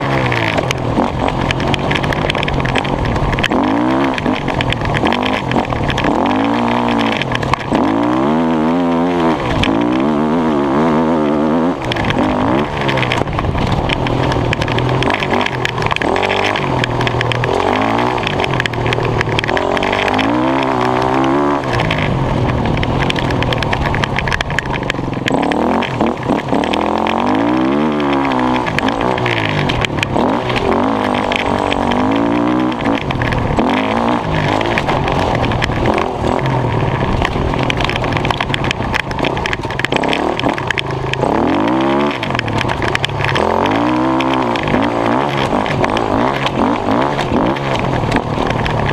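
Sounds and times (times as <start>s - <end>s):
dirt bike engine revving: 0.0s - 48.9s
steady rushing noise: 0.0s - 48.9s.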